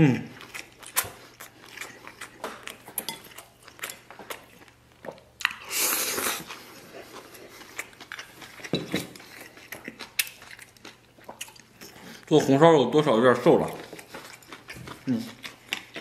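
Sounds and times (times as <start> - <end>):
person chewing food: 0.1 - 12.6, 13.4 - 16.0.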